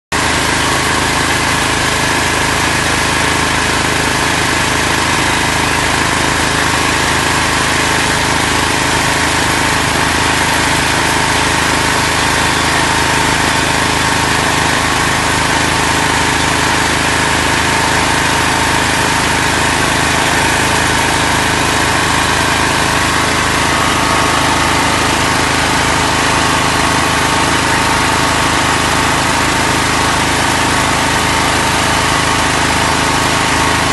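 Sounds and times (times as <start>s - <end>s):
machinery drone with whining tones: 1.0s - 33.9s.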